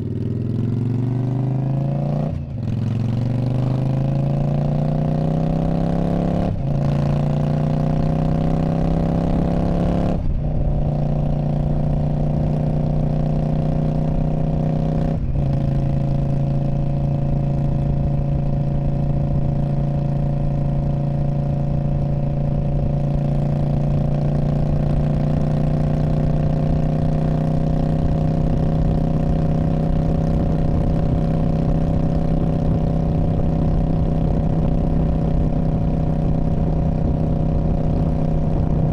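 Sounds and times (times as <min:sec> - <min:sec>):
motorcycle engine exhaust: 0:00.0 - 0:38.9.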